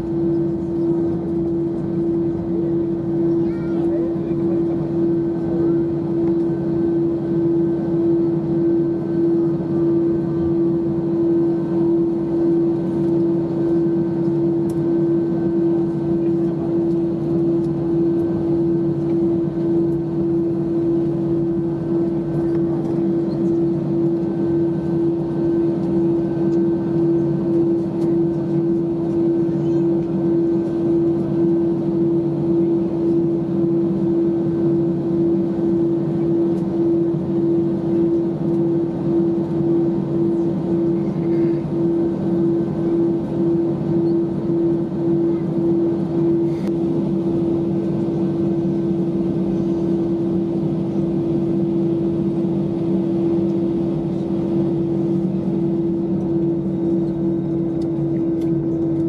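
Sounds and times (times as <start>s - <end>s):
constant rush of cabin noise: 0.0s - 59.0s
jet engines humming: 0.0s - 59.0s.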